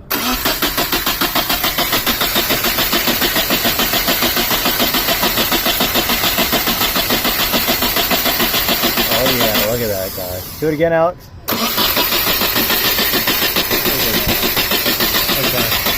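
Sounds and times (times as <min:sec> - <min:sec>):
engine cranking on starter motor: 0:00.0 - 0:10.7, 0:11.5 - 0:15.9.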